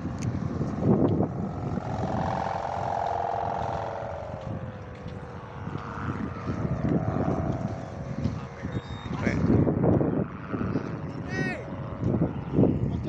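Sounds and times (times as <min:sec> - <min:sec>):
kite hummer droning: 0:00.0 - 0:13.0
wind buffeting microphone: 0:00.0 - 0:13.0.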